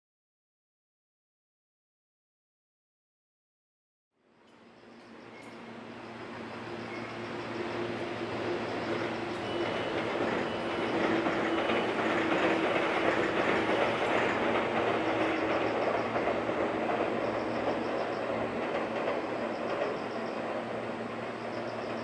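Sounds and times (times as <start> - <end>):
train rumbling over bridge: 4.3 - 22.0.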